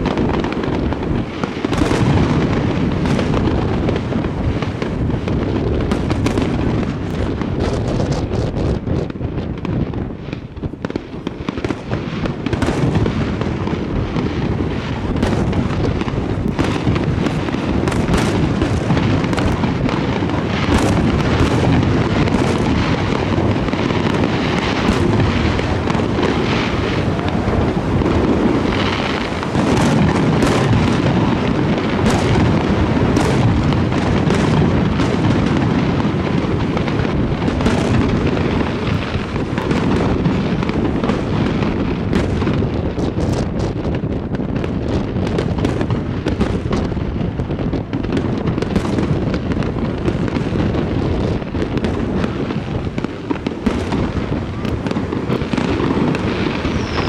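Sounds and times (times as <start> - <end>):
fireworks bursting: 0.0 - 57.0
heavy rumble: 0.0 - 57.0.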